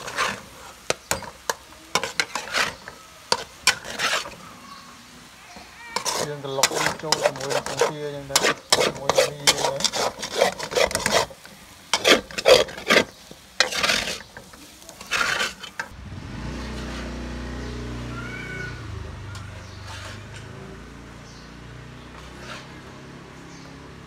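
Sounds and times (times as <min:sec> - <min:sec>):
spatula scraping a wok: 0:00.0 - 0:16.0, 0:16.6 - 0:18.7, 0:19.3 - 0:24.0.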